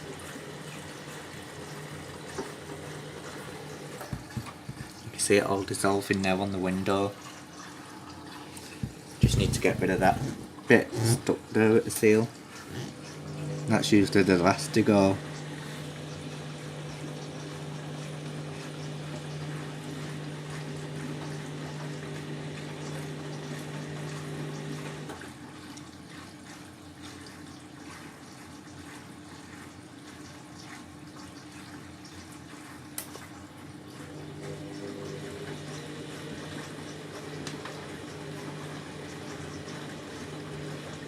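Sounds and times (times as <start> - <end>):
washing machine hum: 0.0 - 41.0
water running into drum: 0.0 - 41.0.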